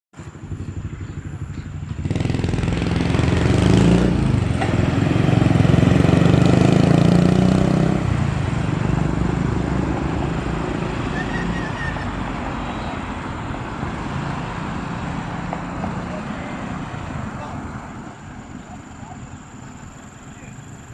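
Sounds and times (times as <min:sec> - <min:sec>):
vehicle engine running: 0:00.2 - 0:20.9.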